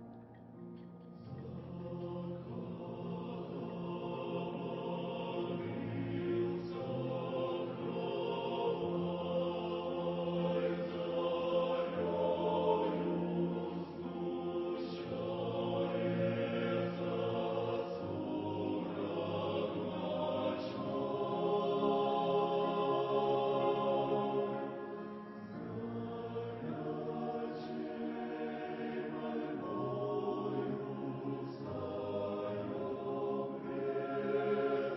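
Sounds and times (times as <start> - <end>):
choir singing a slow hymn: 0.0 - 34.9.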